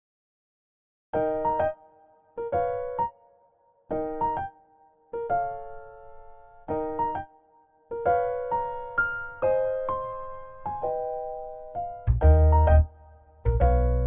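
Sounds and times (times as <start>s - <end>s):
electric piano melody: 1.2s - 3.3s, 3.9s - 14.0s.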